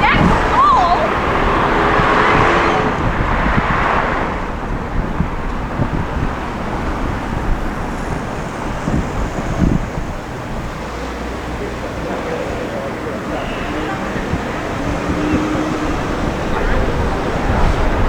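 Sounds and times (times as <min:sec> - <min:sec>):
road and traffic noise: 0:00.0 - 0:18.0
wind rushing over microphone: 0:00.0 - 0:18.0.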